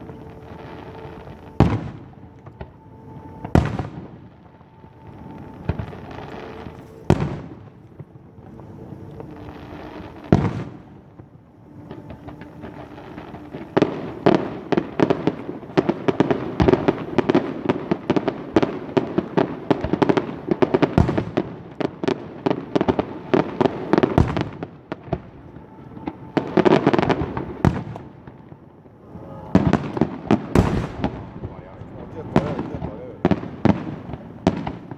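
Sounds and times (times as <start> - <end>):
firework bangs: 0.0 - 34.9
rapid crackling firework reports: 0.0 - 34.9.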